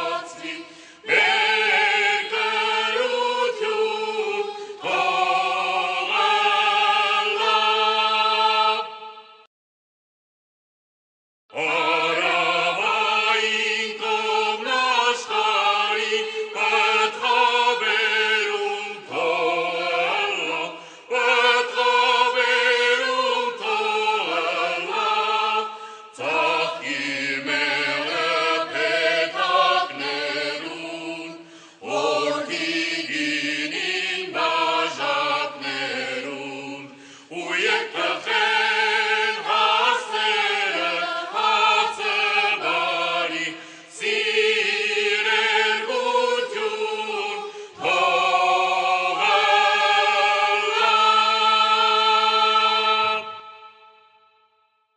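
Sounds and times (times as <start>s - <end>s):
choir singing: 0.0s - 9.5s, 11.5s - 54.5s.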